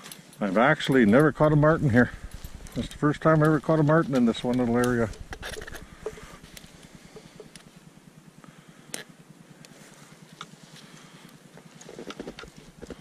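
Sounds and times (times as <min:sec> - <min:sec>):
faint low hum: 0:00.2 - 0:13.0.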